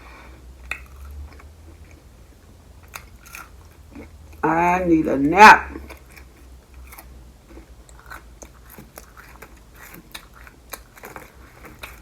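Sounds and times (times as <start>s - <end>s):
person chewing food: 0.3s - 4.4s, 5.7s - 12.0s.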